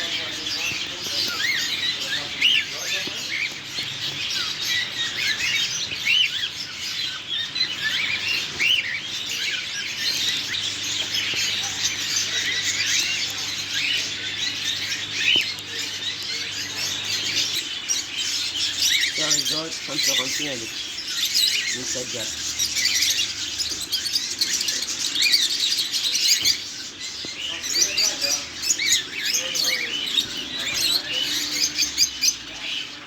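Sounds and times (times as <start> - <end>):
birds chirping and calling: 0.0 - 33.0.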